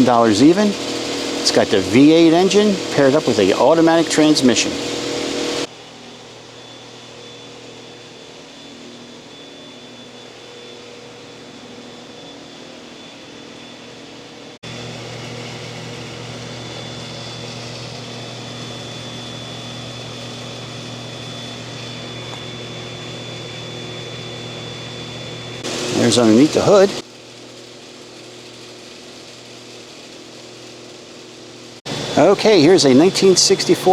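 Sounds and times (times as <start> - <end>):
faint high whine: 0.0 - 27.0, 31.9 - 33.9
mechanical room hum: 0.0 - 33.9.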